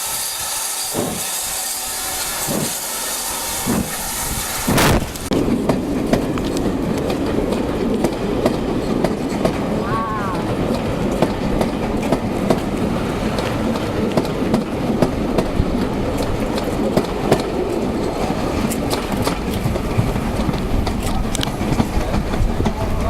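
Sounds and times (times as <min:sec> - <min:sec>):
wheels clicking on track: 0:00.0 - 0:09.8, 0:10.4 - 0:23.0
steam train rumble: 0:00.0 - 0:23.0.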